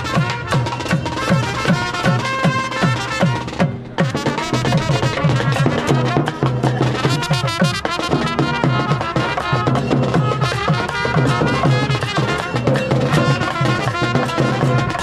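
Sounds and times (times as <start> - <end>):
fast drum and percussion music: 0.0 - 15.0.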